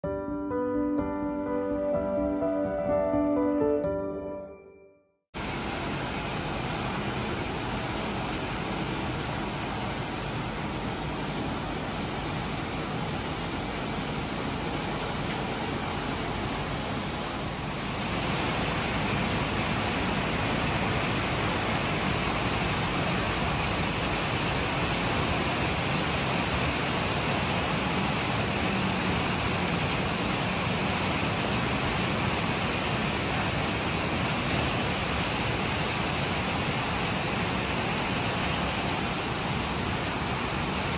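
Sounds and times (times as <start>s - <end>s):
steady rain hiss: 5.4s - 40.9s.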